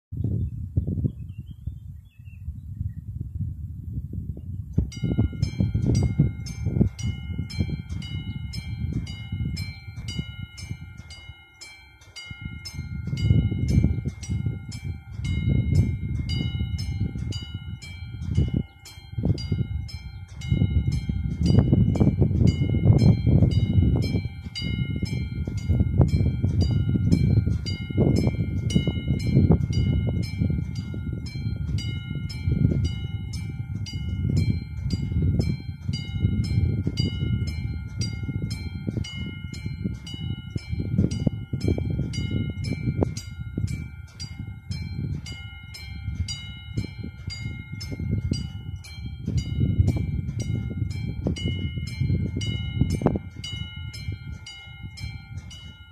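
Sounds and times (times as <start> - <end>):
wind buffeting microphone: 0.1 - 55.9
level-crossing warning bell ringing: 4.8 - 55.9.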